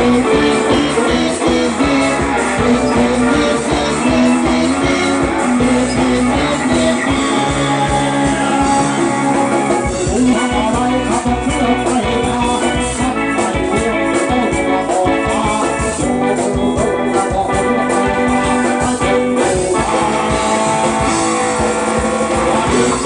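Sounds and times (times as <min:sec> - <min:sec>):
live band playing amplified music: 0:00.0 - 0:23.0.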